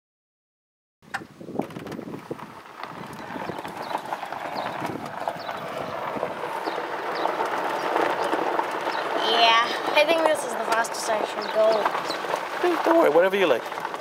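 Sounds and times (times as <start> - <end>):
golf cart rolling over gravel: 1.5 - 14.0.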